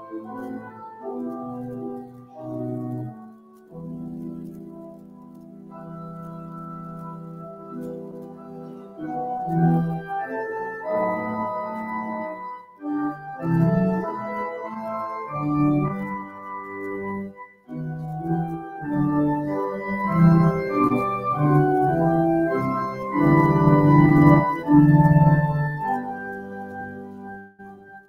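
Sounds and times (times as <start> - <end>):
organ playing a hymn: 0.0 - 28.0.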